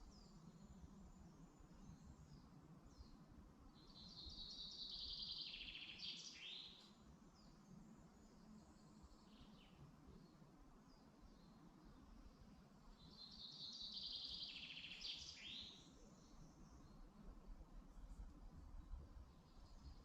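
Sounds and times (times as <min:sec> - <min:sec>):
low steady background hum: 0:00.0 - 0:20.0.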